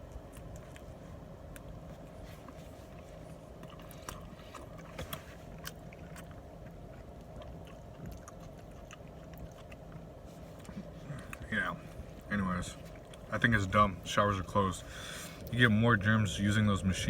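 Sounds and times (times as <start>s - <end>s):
chewing: 0.0s - 14.0s
steady low hum: 0.0s - 17.0s.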